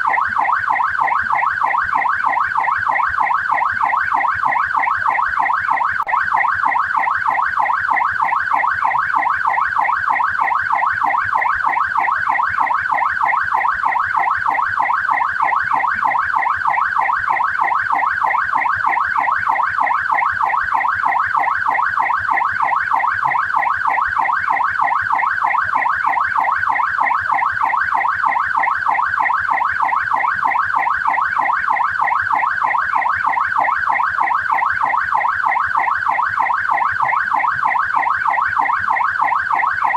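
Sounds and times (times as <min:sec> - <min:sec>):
police siren fast yelp: 0:00.0 - 0:39.9.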